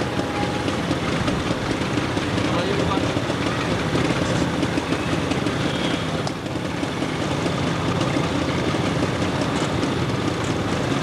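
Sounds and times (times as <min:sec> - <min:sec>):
motor scooter engines running: 0:00.0 - 0:11.0.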